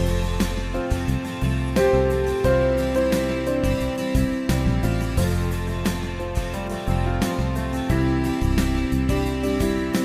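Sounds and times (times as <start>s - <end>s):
plucked guitar melody: 0.0s - 10.0s
steady bass: 0.0s - 10.0s.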